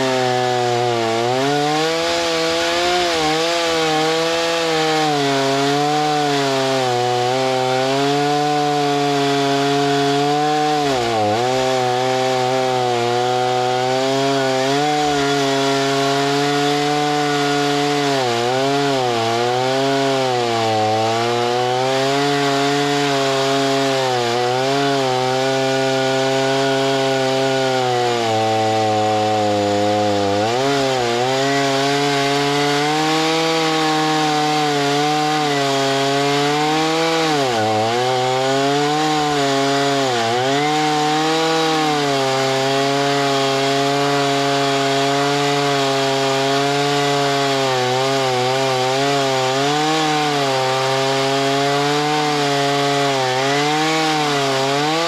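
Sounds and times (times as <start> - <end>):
saw gas engine under load: 0.0 - 55.0.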